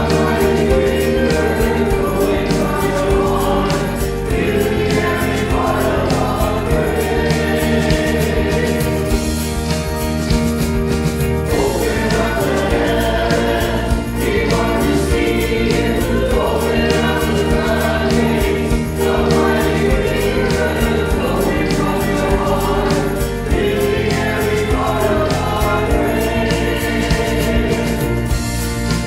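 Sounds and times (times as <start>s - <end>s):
group singing in harmony: 0.0s - 29.0s
keyboard backing track with beat: 0.0s - 29.0s.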